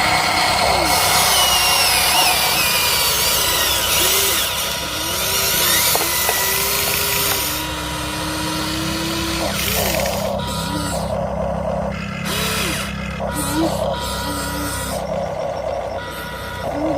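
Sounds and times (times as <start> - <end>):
small electric motors whining: 0.0 - 16.9.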